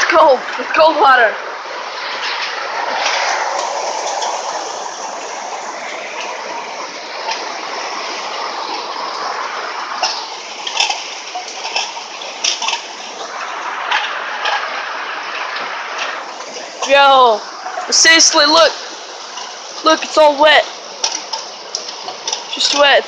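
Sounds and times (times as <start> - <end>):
heavy rain pouring: 0.0 - 23.0
sharp splashes: 0.0 - 23.0
water running over ground: 0.0 - 23.0.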